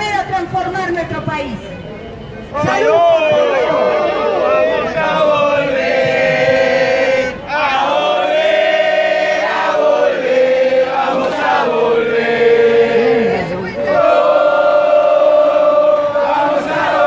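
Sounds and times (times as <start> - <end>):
crowd singing in unison: 2.6 - 17.0.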